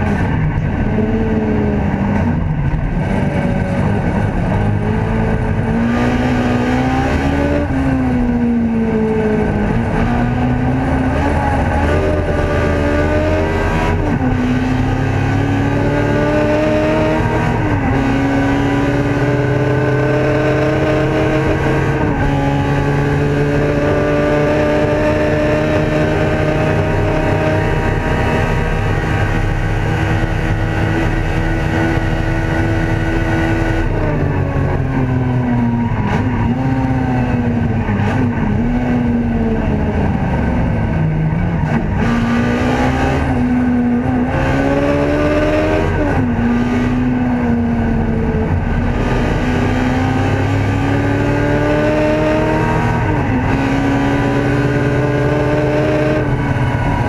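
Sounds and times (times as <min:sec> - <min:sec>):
racing car engine revving: 0:00.0 - 0:57.0.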